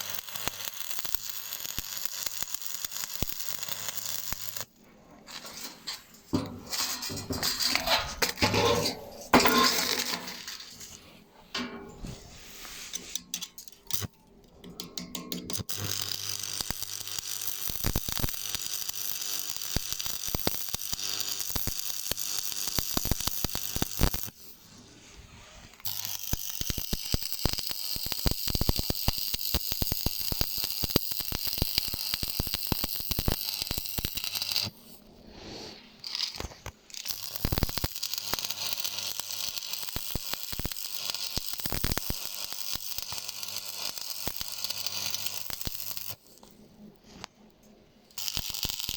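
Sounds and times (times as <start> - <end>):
welding arc crackling: 0.0 - 11.0, 12.4 - 24.5, 25.8 - 34.8, 36.0 - 46.5, 48.1 - 48.9.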